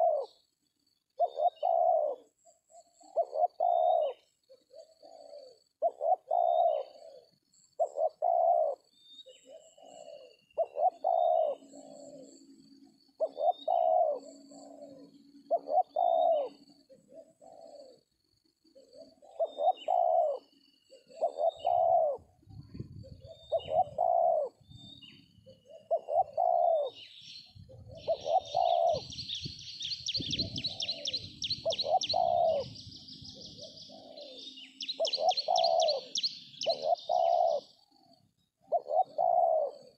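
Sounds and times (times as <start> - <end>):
doves cooing: 0.0 - 0.4, 1.2 - 39.9
small birds chirping: 0.0 - 39.9.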